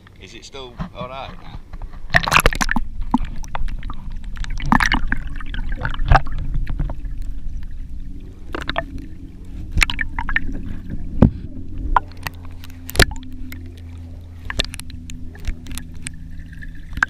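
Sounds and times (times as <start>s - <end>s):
wind rumble on microphone: 0.0s - 17.0s
paddle splashing water: 0.7s - 17.0s.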